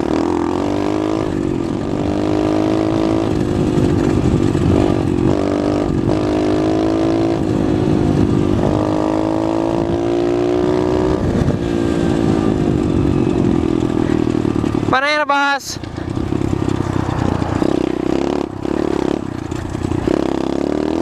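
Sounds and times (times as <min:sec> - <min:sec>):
pit bike engine running: 0:00.0 - 0:21.0.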